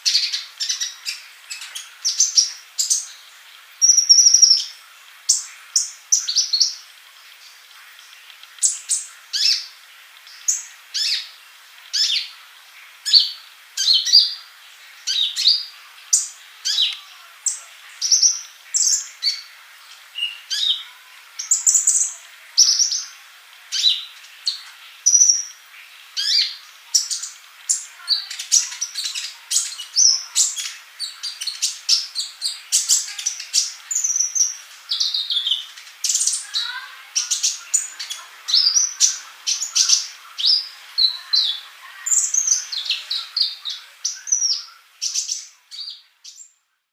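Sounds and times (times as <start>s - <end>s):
bird chirping: 0.0s - 12.4s, 13.0s - 46.7s.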